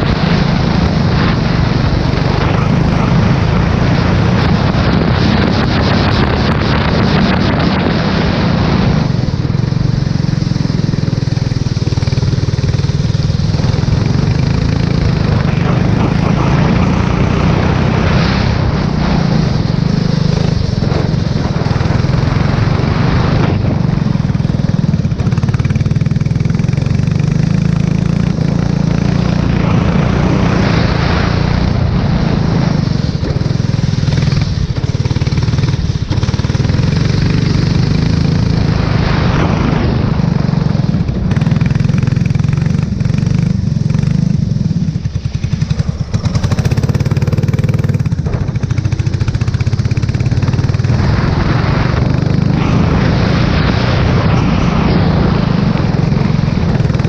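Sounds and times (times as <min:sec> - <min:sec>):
race car engine running: 0:00.0 - 0:57.0
wind and tyre spray hiss: 0:00.0 - 0:57.0.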